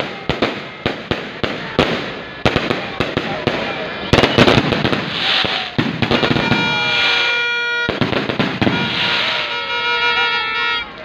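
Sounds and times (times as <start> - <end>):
firework bangs: 0.0 - 11.0
firework crackling: 0.0 - 11.0.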